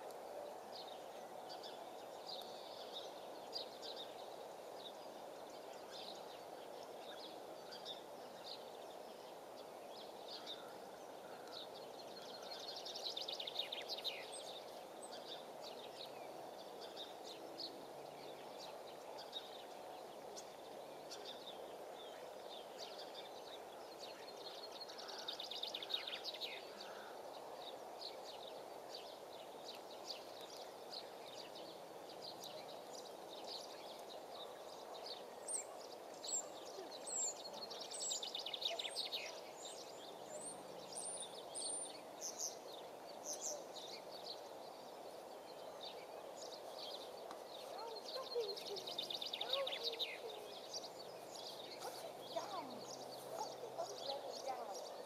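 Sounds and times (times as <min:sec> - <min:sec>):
songbird trilled song: 0:00.0 - 0:55.0.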